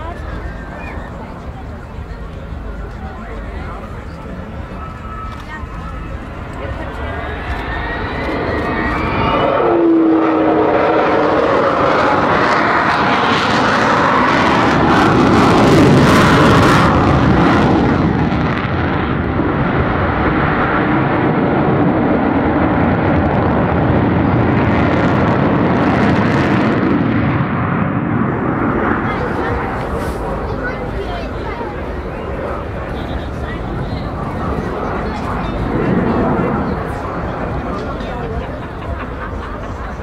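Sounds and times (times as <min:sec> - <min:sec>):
jet aircraft flying overhead: 0:00.0 - 0:40.0.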